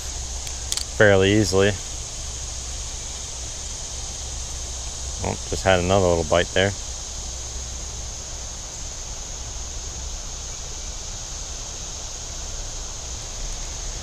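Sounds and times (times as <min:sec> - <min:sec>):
creek hiss: 0:00.0 - 0:14.0.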